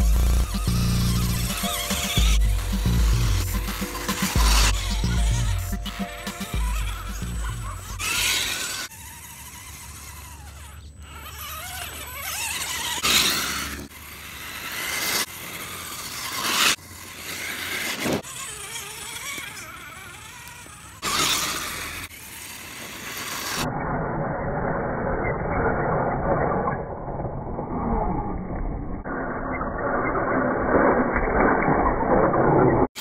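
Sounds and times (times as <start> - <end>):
rc car motor whining: 0.0 - 33.0.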